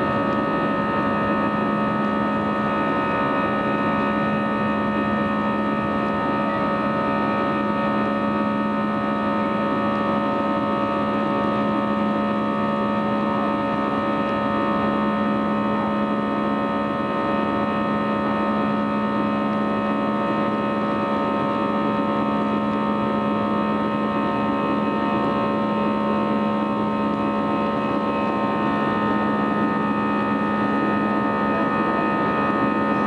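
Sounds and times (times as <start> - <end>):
jet engines droning in cabin: 0.0 - 33.0.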